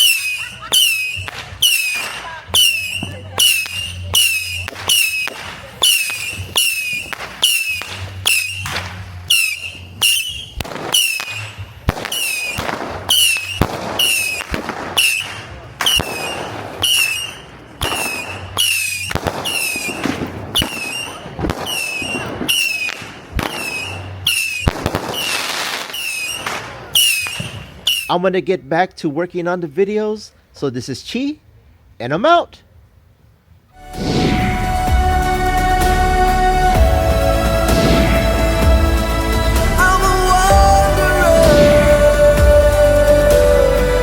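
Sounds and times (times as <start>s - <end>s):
firework whistling chirp: 0.0s - 28.2s, 33.8s - 44.0s
fireworks banging: 0.0s - 28.5s, 33.8s - 44.0s.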